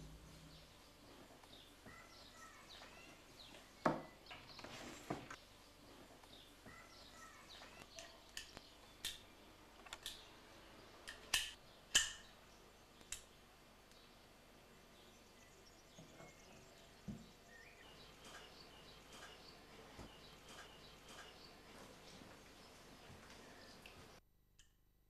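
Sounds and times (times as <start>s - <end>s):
faint birds chirping: 0.0s - 24.2s.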